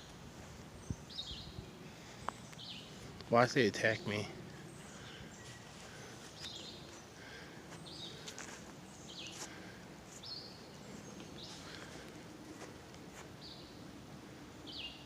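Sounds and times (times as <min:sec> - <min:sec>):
birds chirping: 0:00.0 - 0:15.0
steady low hiss: 0:00.0 - 0:15.0.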